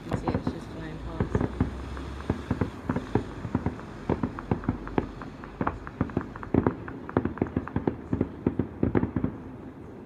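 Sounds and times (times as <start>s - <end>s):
fireworks bangs and pops: 0.0s - 9.6s.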